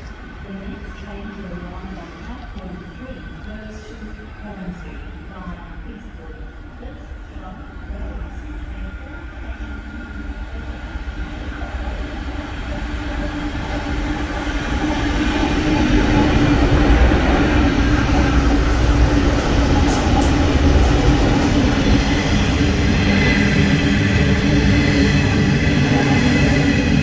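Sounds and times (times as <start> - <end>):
diesel locomotive engine: 0.0 - 27.0.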